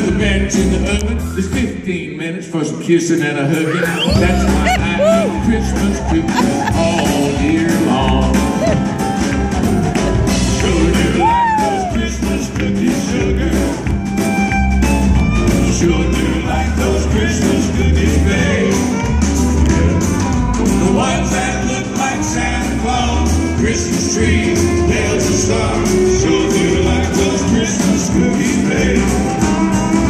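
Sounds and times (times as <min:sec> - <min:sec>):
live country band playing: 0:00.0 - 0:02.2, 0:03.0 - 0:30.0.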